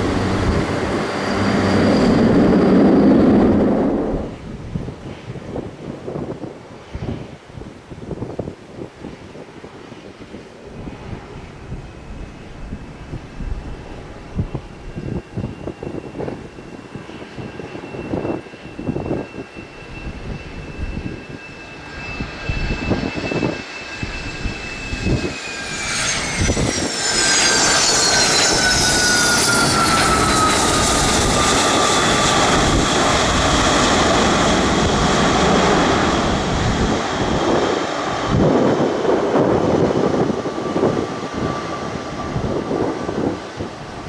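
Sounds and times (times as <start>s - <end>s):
jet aircraft passing: 0.0s - 44.0s.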